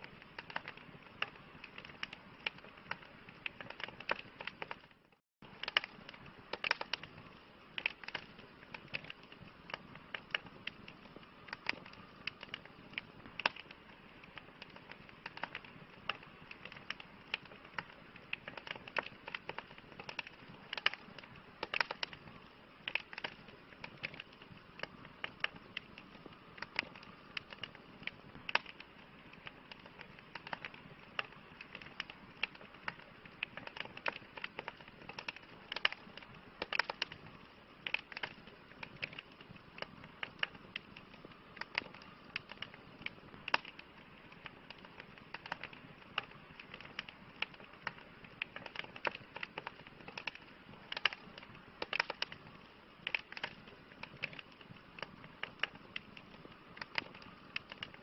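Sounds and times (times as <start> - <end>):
fire pops and snaps: 0.0 - 58.0
soft fire hiss: 0.0 - 58.0.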